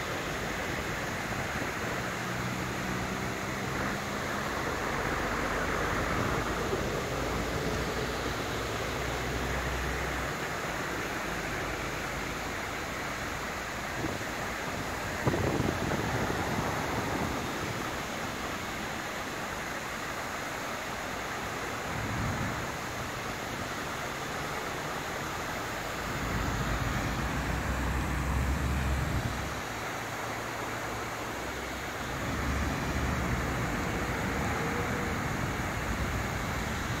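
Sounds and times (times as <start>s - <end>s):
fountain water splashing: 0.0s - 37.0s.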